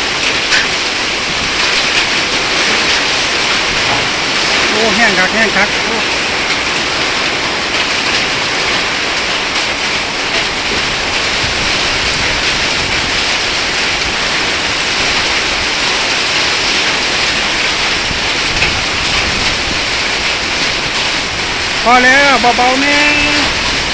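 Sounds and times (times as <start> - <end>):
hail pattering: 0.0 - 23.9
heavy rain pouring: 0.0 - 23.9.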